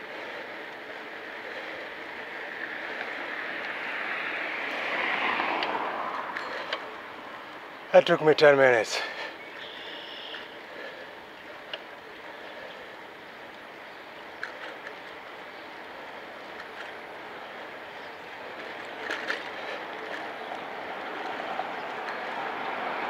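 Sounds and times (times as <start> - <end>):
bicycle rolling noise: 0.0 - 23.0.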